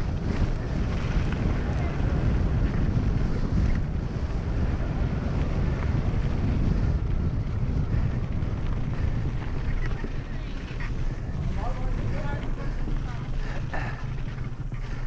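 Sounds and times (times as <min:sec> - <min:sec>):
tyres rolling over gravel: 0:00.0 - 0:15.0
wind buffeting microphone: 0:00.0 - 0:15.0.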